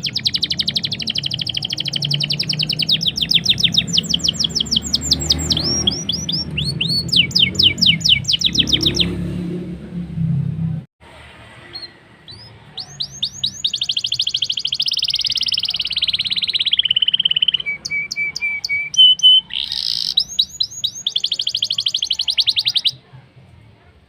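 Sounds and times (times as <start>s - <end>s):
bird singing rapid trills: 0.0s - 9.3s, 11.7s - 23.0s.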